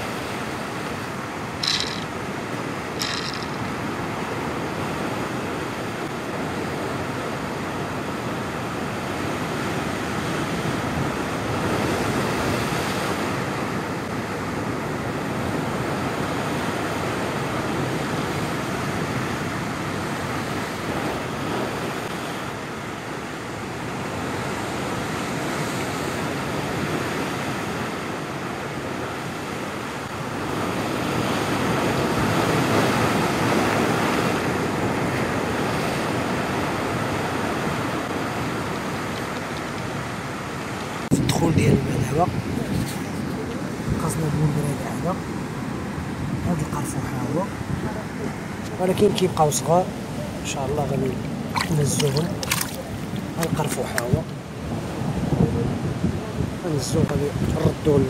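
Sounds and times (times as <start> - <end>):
ocean surf breaking on rocks: 0.0 - 58.0.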